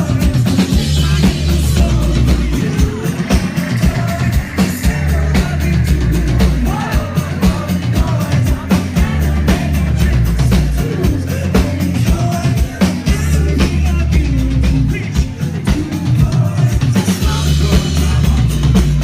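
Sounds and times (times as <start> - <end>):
drum kit beat: 0.0 - 19.0
heavy bass: 0.0 - 19.0
person singing: 0.0 - 19.0.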